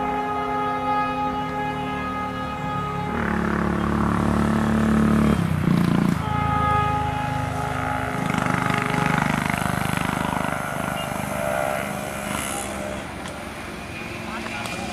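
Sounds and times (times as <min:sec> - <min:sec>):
distant train horn: 0:00.0 - 0:14.9.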